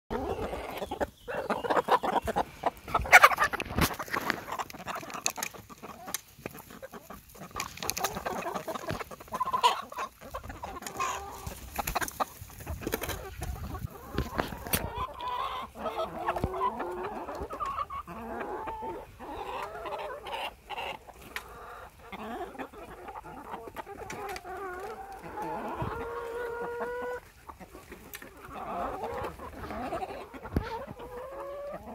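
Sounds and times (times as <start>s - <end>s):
hens clucking: 0.1s - 31.9s
hens drawn-out calls: 0.1s - 31.9s.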